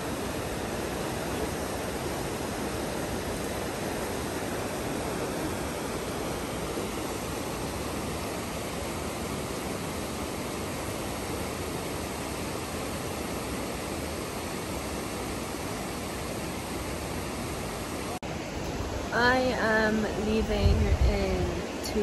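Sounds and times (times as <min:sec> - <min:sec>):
river rushing over rocks: 0:00.0 - 0:19.9.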